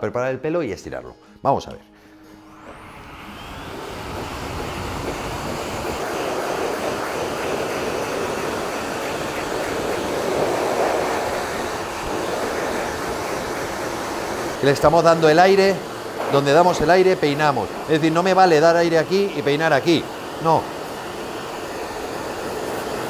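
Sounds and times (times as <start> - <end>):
pet dryer blowing air: 2.1 - 23.0.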